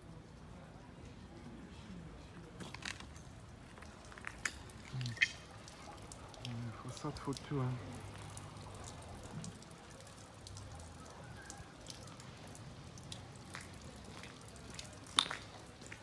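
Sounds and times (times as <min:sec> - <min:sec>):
raindrops dripping: 0:00.0 - 0:16.0.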